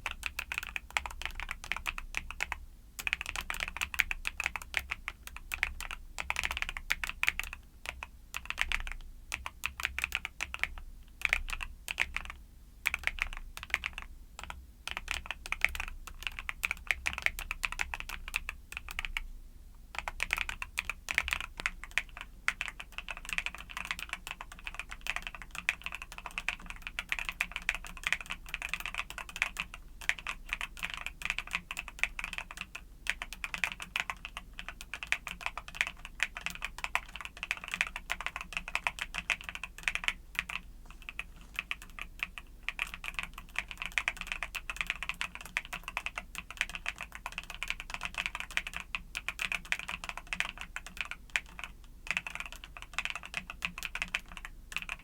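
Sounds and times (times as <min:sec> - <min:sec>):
mechanical keyboard typing: 0:00.0 - 0:19.2, 0:19.9 - 0:55.0.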